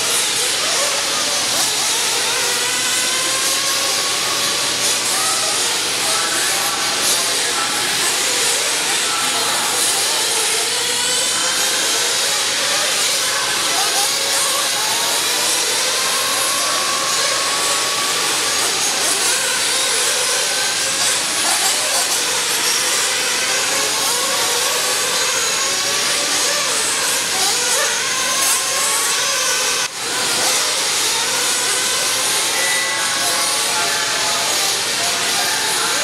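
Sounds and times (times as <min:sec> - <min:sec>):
rc car motors whining: 0:00.0 - 0:36.0.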